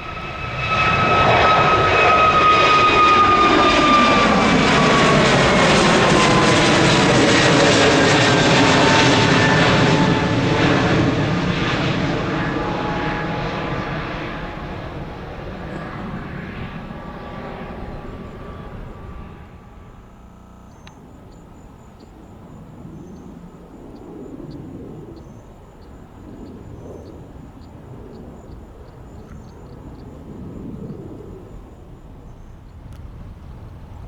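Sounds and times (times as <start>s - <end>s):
airliner engine noise: 0.0s - 34.0s
uneven low rumble: 0.0s - 34.0s.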